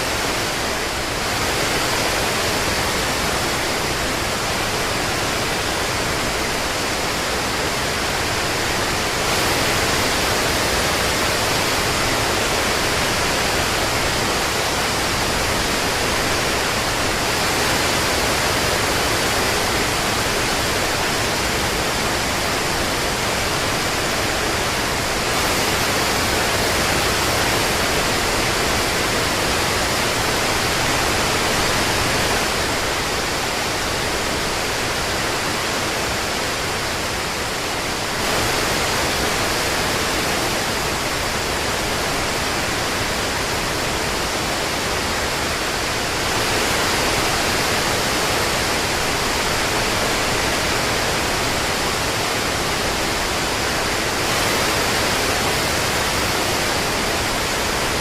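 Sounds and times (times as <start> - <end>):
steady dense rain: 0.0 - 58.0.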